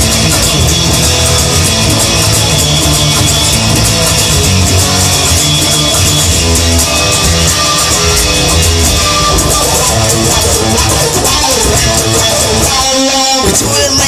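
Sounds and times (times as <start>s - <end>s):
bass and drums: 0.0s - 14.0s
distorted electric guitar: 0.0s - 14.0s.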